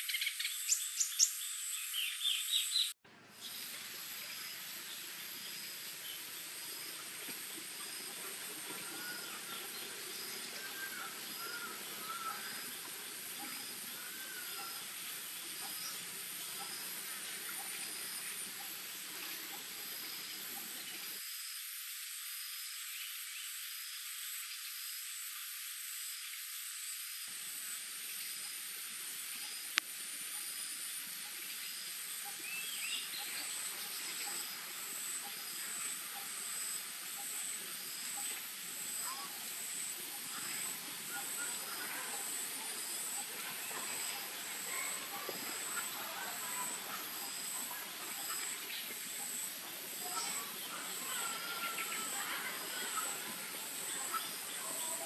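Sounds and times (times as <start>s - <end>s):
insect chirp: 0.0s - 55.0s
insects trilling: 0.0s - 55.0s.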